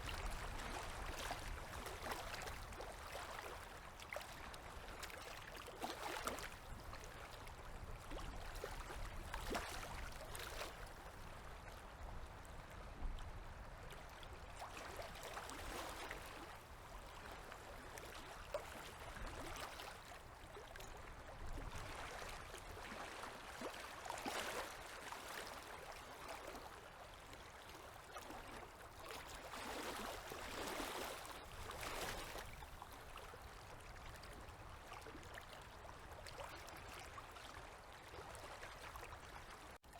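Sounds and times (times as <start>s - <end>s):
waves lapping at shore: 0.0s - 39.9s.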